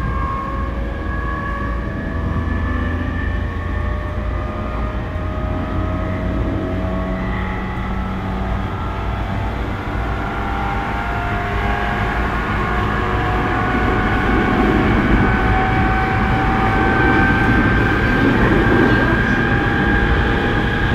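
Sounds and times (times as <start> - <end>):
train motors whining: 0.0 - 20.9
wheels rumbling on rail: 0.0 - 20.9.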